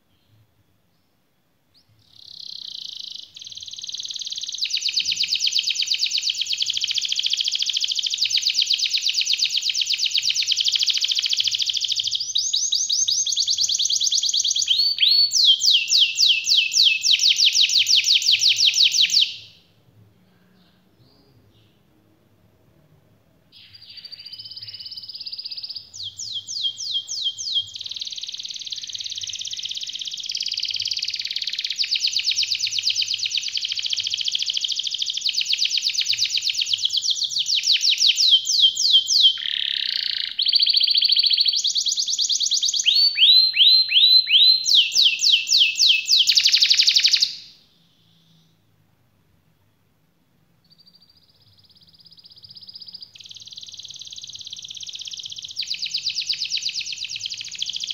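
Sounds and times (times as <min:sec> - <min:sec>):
canary singing rapid trills: 0:02.0 - 0:19.6, 0:23.6 - 0:47.6, 0:50.7 - 0:57.9.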